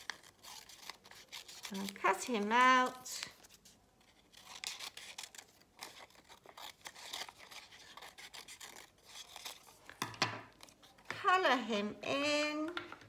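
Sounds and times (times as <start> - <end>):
scissors snipping paper: 0.0 - 11.1
paper rustling: 0.0 - 11.4.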